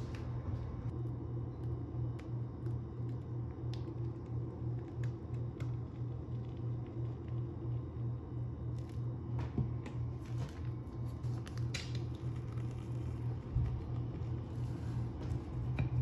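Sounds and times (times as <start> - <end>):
pulsing mechanical hum: 0.0 - 16.0.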